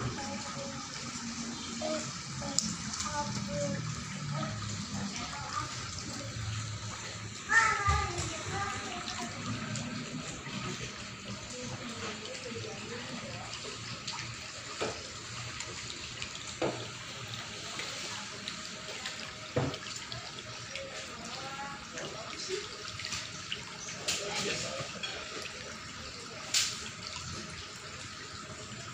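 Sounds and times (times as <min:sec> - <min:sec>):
water trickling in pool: 0:00.0 - 0:28.9.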